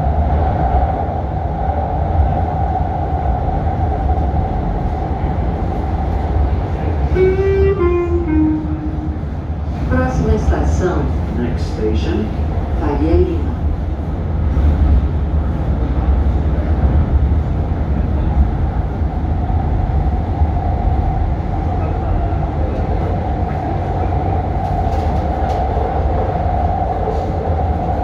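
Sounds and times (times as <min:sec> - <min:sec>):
metro train rumbling: 0:00.0 - 0:28.0.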